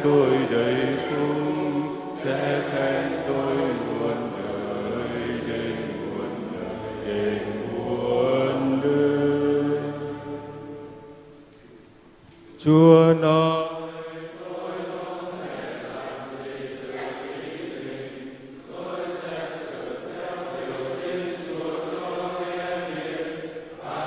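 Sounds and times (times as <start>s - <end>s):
slow liturgical chant: 0.0s - 24.0s.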